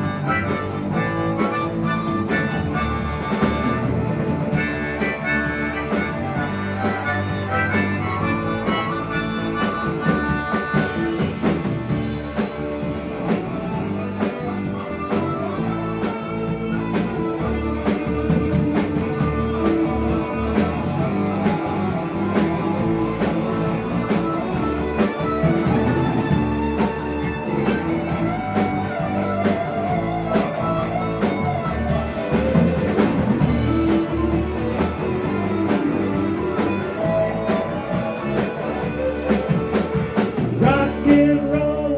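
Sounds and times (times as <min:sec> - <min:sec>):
band playing instrumental: 0:00.0 - 0:41.9
guitar: 0:00.0 - 0:41.9
lead line: 0:00.0 - 0:41.9
steady drum beat: 0:00.0 - 0:41.9.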